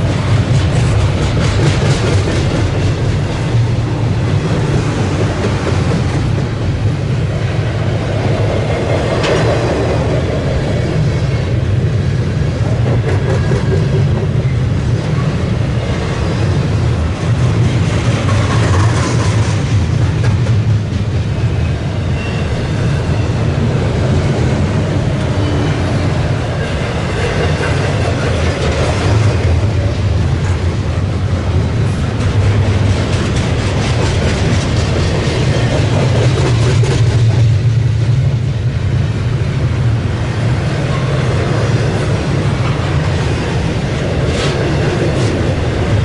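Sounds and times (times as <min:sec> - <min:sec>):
wheels clacking over rail joints: 0:00.0 - 0:38.3
freight train rumble: 0:00.0 - 0:46.0.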